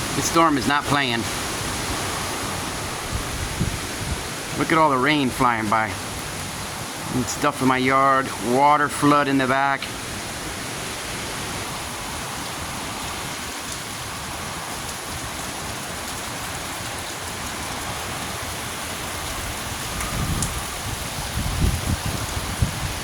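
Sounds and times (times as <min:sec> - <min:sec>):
heavy rain pouring: 0:00.0 - 0:23.0
strong wind gusts: 0:00.0 - 0:23.0.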